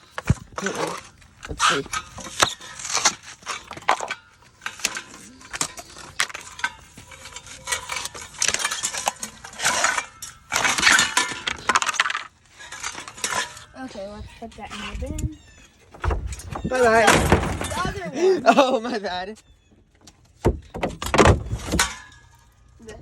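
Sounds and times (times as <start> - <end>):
broken plastic pieces clattering: 0.0 - 13.7, 15.9 - 18.7, 20.4 - 22.6.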